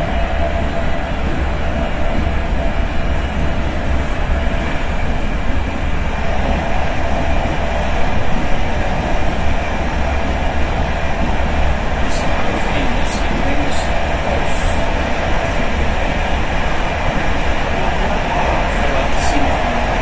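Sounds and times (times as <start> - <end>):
train running gear rumble: 0.0 - 20.0.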